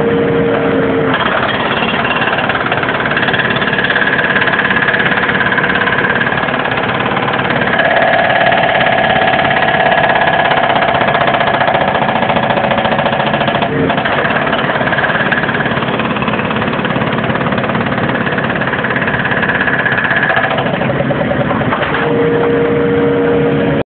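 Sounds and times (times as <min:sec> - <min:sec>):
diesel engine under load: 0:00.0 - 0:23.8
hydraulic concrete breaker clatter: 0:01.0 - 0:22.8.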